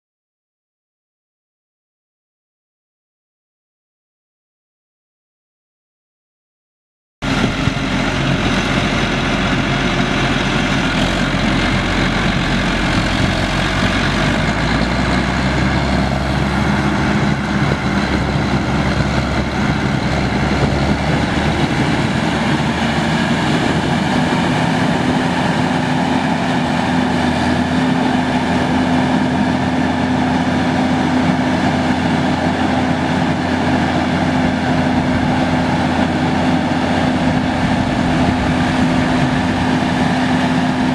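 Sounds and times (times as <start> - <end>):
diesel tractor engine running: 7.2 - 40.9.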